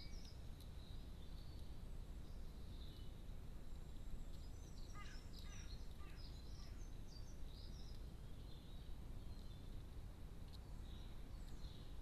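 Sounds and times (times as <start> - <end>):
low outdoor rumble: 0.0 - 12.0
songbird chirping: 0.0 - 12.0.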